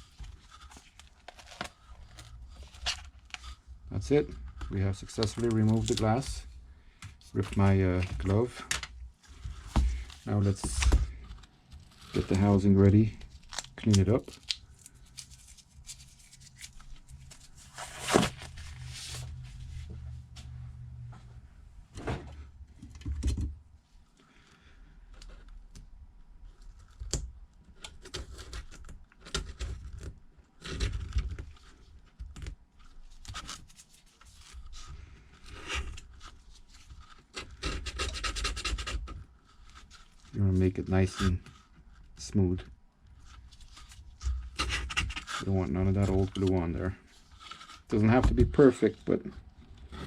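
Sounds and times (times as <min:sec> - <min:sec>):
adhesive scraping and tearing: 0:00.0 - 0:19.4, 0:26.5 - 0:50.0.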